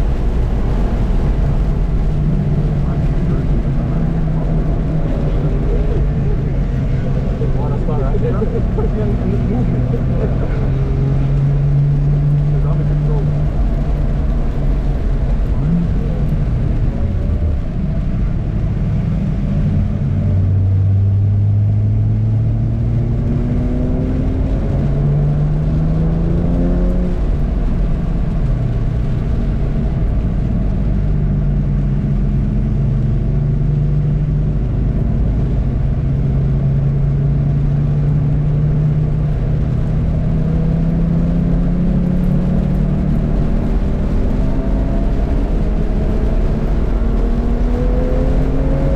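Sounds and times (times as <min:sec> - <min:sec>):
car engine accelerating: 0:00.0 - 0:48.9
road noise: 0:00.0 - 0:48.9.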